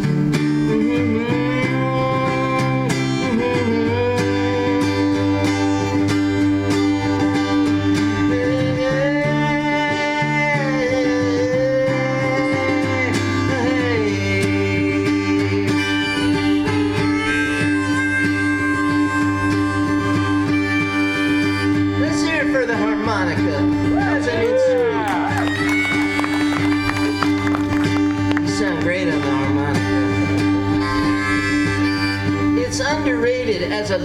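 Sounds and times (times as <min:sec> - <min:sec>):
harmonica solo: 0:00.0 - 0:34.0
strummed acoustic guitar: 0:00.0 - 0:34.0.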